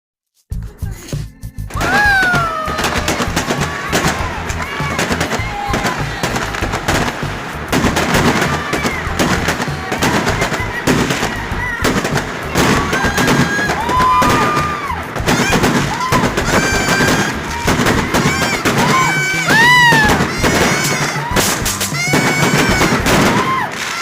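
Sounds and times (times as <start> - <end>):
fireworks crackling bangs: 1.7 - 24.0
fireworks whistling: 1.7 - 24.0.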